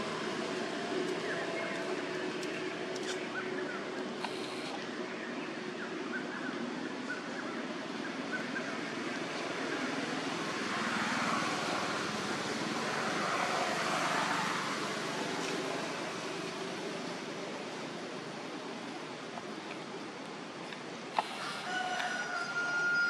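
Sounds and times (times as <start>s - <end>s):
rushing outdoor background noise: 0.0s - 23.0s.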